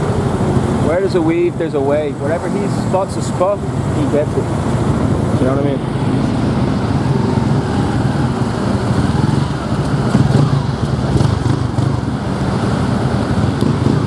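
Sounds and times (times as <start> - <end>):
motorcycle running: 0.0 - 14.0
road traffic hum: 0.0 - 14.0.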